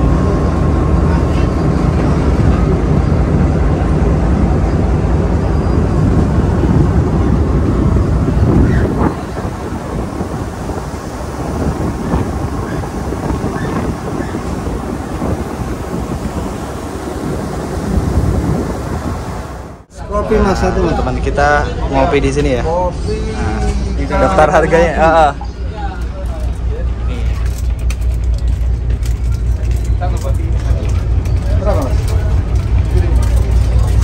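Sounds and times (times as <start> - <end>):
ferry diesel engines rumbling: 0.0 - 34.0.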